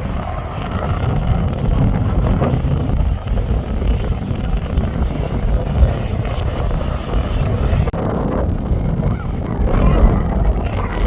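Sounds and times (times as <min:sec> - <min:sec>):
loud aircraft engine: 0:00.0 - 0:11.0.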